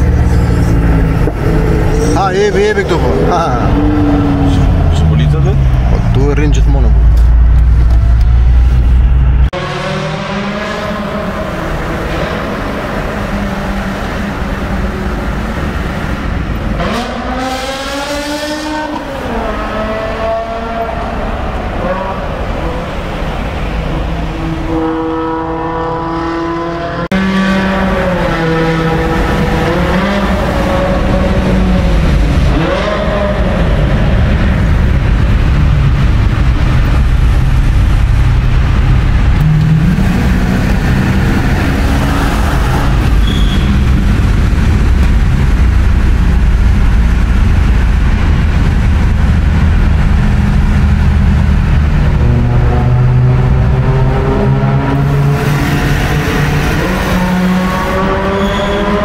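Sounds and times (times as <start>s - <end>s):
car engines running hard in tunnel: 0.0s - 59.0s.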